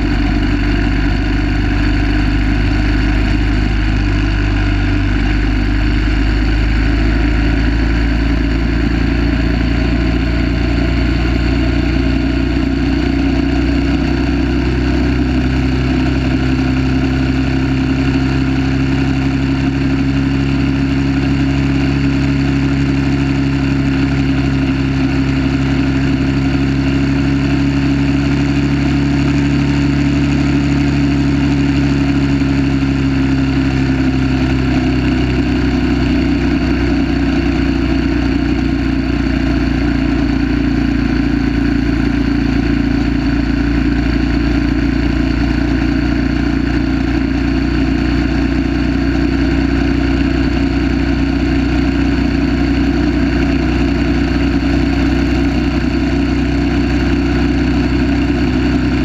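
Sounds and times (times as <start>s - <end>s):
single-cylinder engine running hard: 0.0s - 59.0s.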